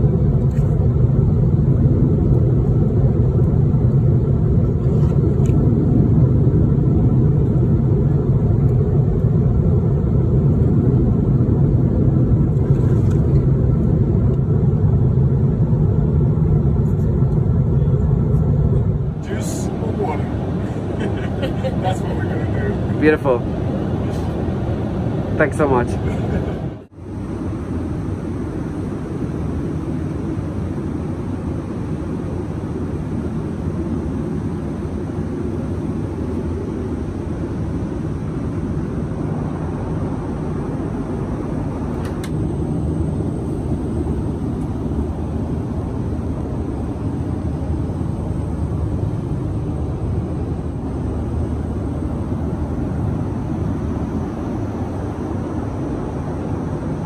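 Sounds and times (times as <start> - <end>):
airplane cabin engine rush: 0.0 - 57.0.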